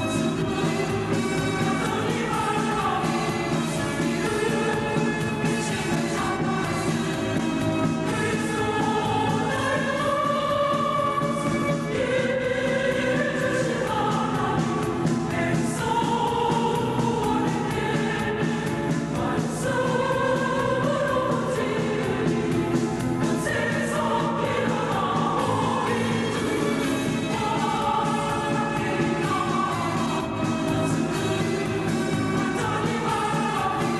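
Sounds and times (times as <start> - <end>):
choir singing a hymn: 0.0 - 33.9.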